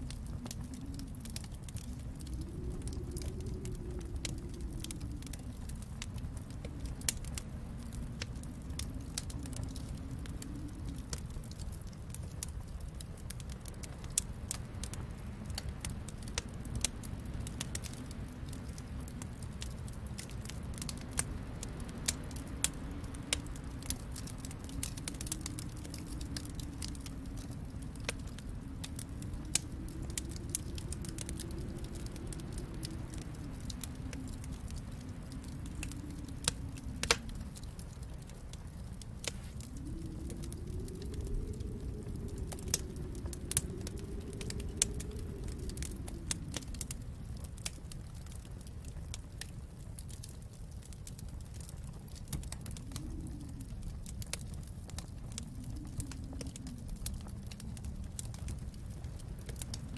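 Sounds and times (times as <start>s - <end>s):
low rumble: 0.0s - 49.4s
wood fire crackling: 0.0s - 59.9s.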